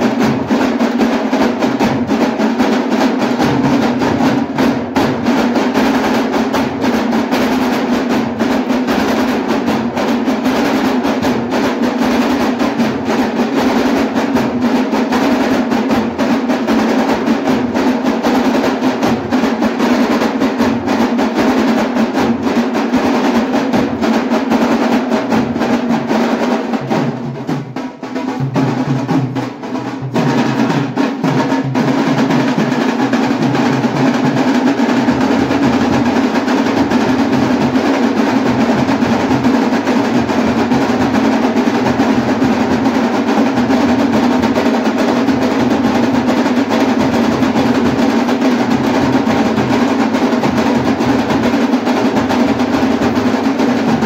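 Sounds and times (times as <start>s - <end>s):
drum band playing: 0.0s - 54.0s.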